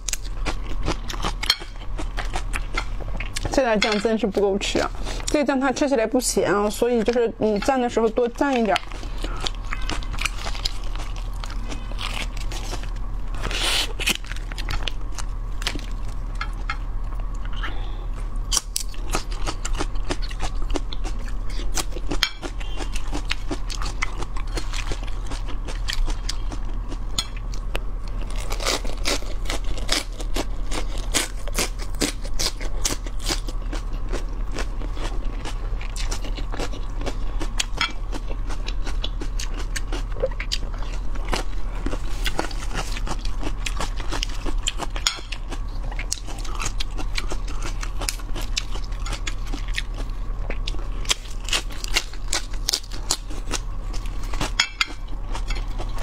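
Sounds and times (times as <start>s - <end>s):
person chewing crunchy food: 0.0s - 3.5s, 8.1s - 56.0s
steady low hum: 0.0s - 56.0s.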